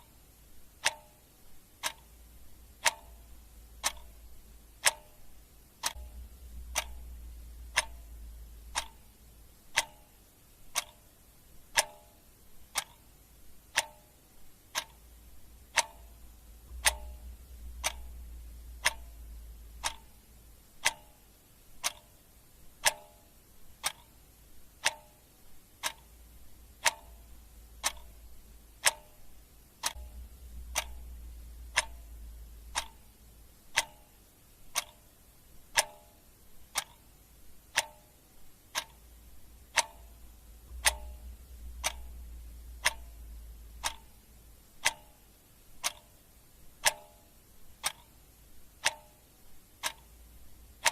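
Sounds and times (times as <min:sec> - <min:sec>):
clock ticking: 0:00.0 - 0:50.9
faint low hum: 0:00.0 - 0:50.9.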